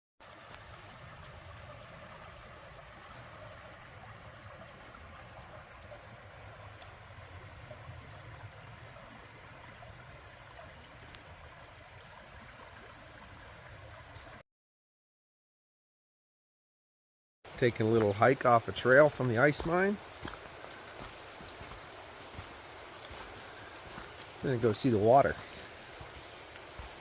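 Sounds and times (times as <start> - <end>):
creek water rushing: 0.2 - 14.4, 17.5 - 27.0.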